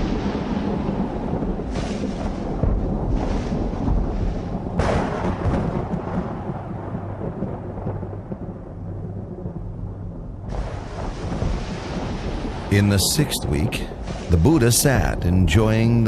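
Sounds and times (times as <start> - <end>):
sharp thunderclap: 0.0 - 15.6
thunder rumbling: 0.0 - 16.0.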